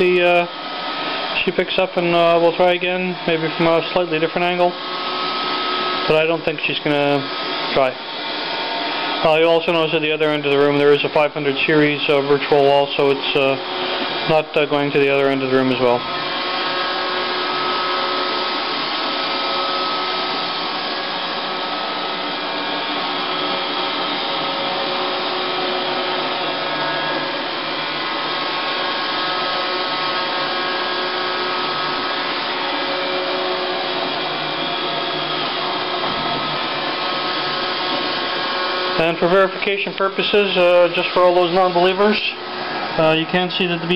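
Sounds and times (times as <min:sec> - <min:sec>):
robot vacuum whirring: 0:00.4 - 0:43.9.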